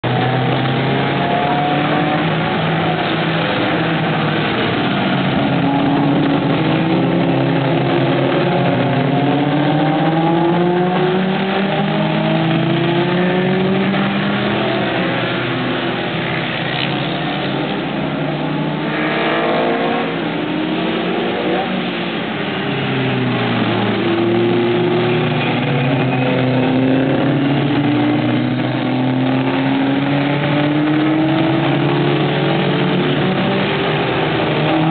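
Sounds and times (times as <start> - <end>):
race car engines revving: 0.0 - 34.9.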